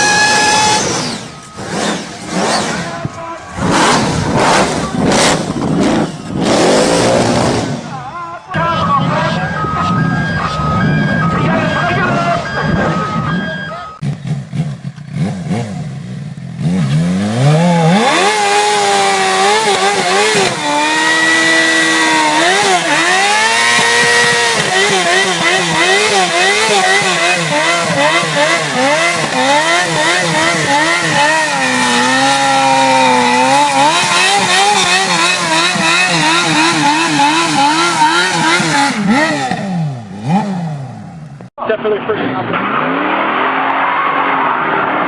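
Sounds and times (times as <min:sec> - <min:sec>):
car engine revving hard: 0:00.0 - 0:08.0, 0:10.6 - 0:41.5, 0:42.1 - 0:45.0.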